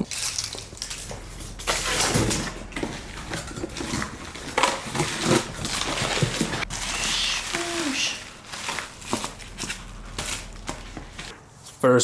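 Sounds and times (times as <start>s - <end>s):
rustling packaging: 0.0s - 11.8s.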